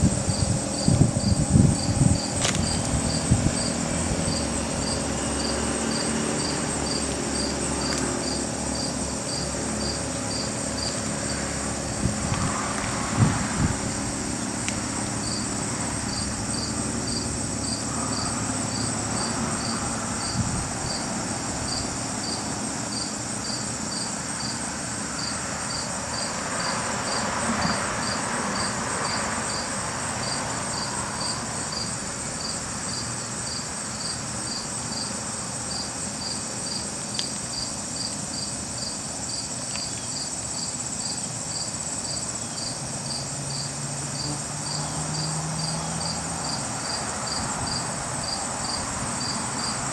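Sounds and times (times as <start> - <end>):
insect trill: 0.0 - 49.9
insects chirping: 0.0 - 49.9.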